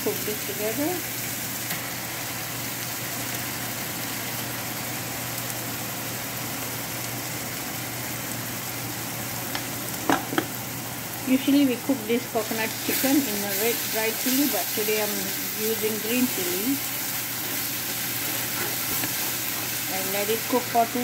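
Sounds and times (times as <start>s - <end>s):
onions sizzling in a frying pan: 0.0s - 21.0s.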